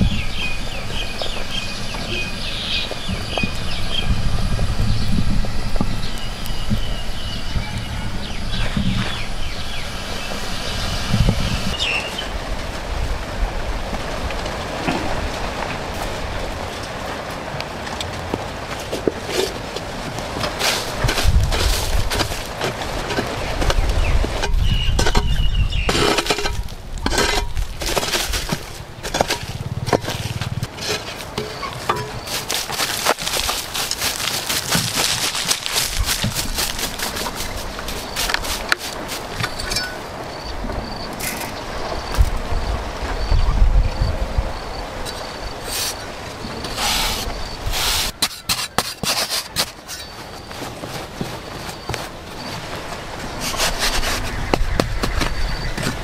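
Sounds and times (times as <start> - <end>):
hoe scraping dry soil: 0.0 - 41.7, 45.0 - 56.0.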